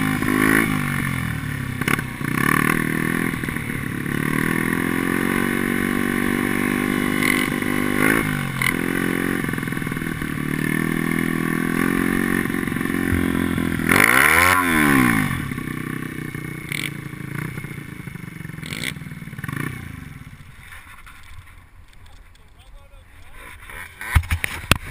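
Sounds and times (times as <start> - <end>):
kart engine running under load: 0.0 - 21.6.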